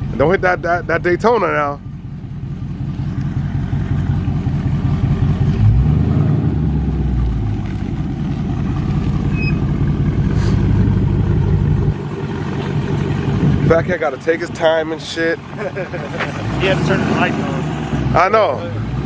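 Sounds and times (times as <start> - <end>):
car engine deep rumble: 0.0 - 19.0.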